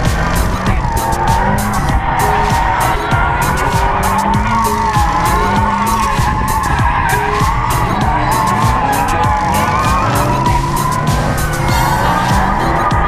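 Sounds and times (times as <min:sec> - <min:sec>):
car engines running: 0:00.0 - 0:13.0
music with steady beat: 0:00.0 - 0:13.0
tyres skidding: 0:00.0 - 0:13.0.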